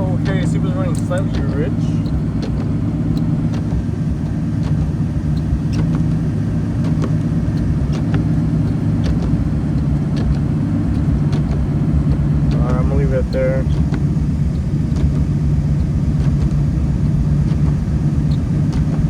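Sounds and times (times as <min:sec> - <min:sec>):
car engine idling: 0:00.0 - 0:19.0
rain ticking on car: 0:00.0 - 0:19.0.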